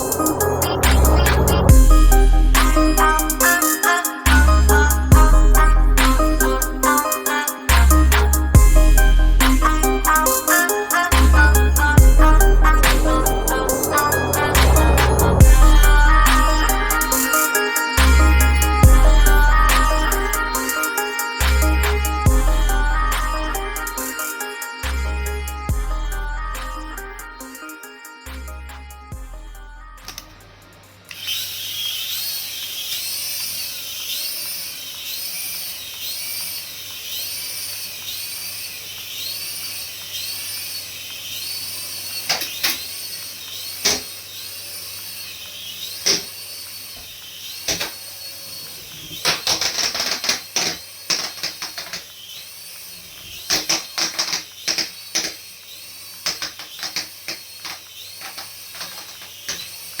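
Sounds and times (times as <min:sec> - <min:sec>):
toy motor whining: 0:00.0 - 1:00.0.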